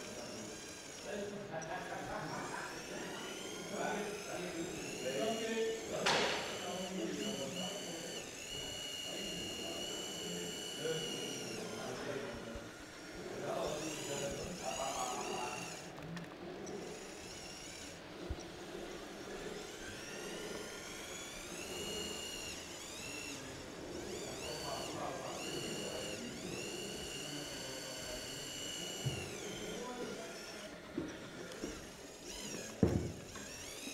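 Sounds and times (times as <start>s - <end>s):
electric model motors whining: 0.0s - 33.9s.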